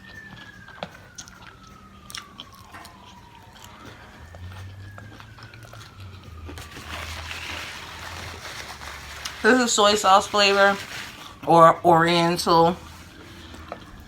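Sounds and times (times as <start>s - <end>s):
close-up crunchy chewing: 0.0s - 11.5s, 12.7s - 14.0s.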